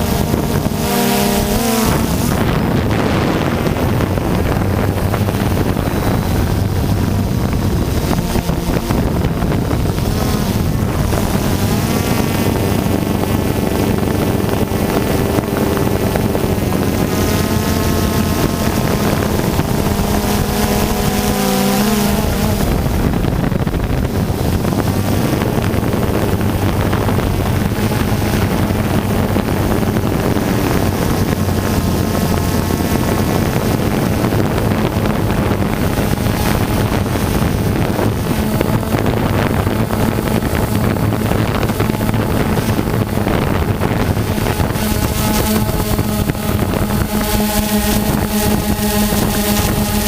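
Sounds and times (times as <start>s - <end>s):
drone motors whirring: 0.0s - 50.0s
wind noise on microphone: 0.0s - 50.0s.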